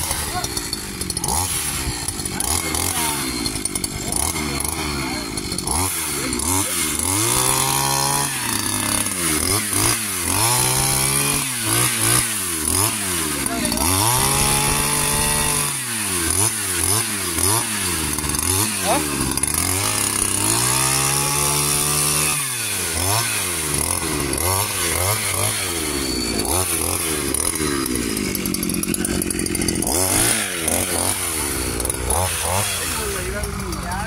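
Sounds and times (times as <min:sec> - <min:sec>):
chainsaw cutting plant: 0:00.0 - 0:34.0
engine revving: 0:00.0 - 0:34.0.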